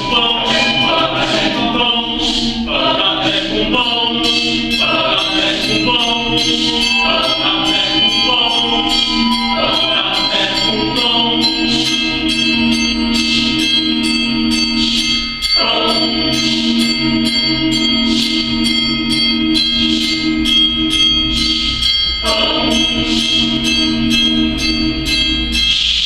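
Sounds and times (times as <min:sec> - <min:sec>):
mixed choir singing in harmony: 0:00.0 - 0:18.7, 0:22.2 - 0:25.0.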